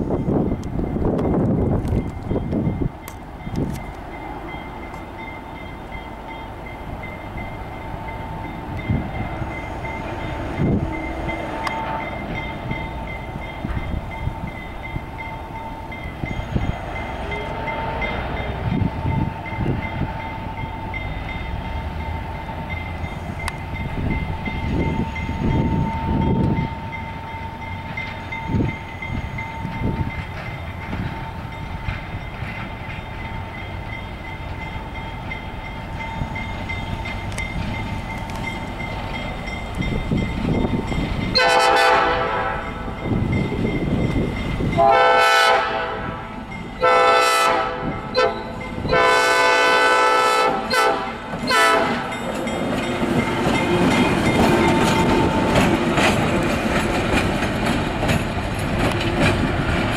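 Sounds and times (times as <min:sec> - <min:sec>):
locomotive diesel engine rumbling: 0:00.0 - 0:59.9.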